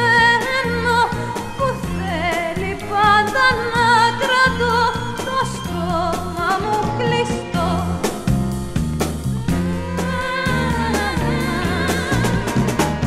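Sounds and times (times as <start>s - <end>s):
psychedelic rock music: 0.0s - 13.0s.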